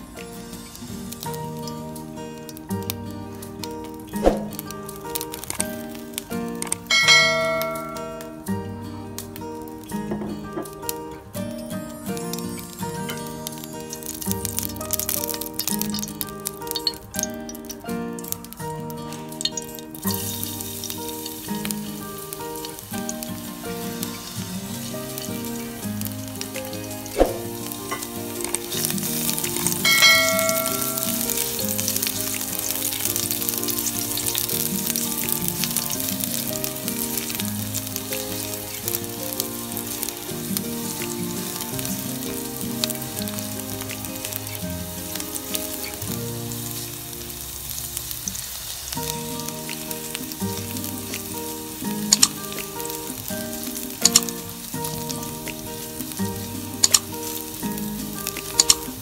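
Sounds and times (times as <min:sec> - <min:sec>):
garlic sizzling in oil: 0:00.0 - 0:59.0.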